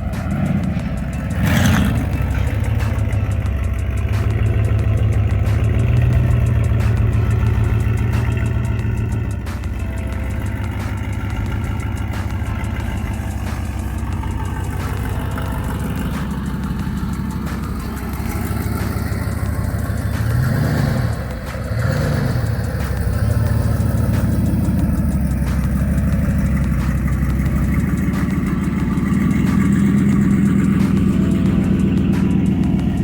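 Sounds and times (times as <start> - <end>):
truck engine idling and revving: 0.0 - 33.0.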